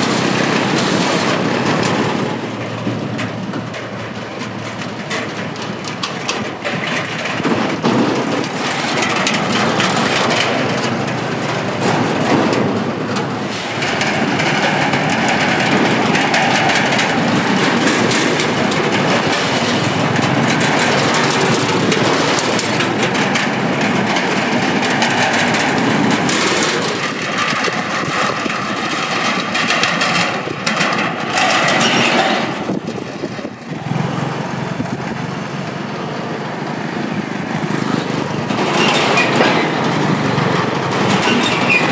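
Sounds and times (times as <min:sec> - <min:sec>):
metallic clatter of bridge deck: 0:00.0 - 0:41.9
motorbike engines running: 0:00.0 - 0:41.9.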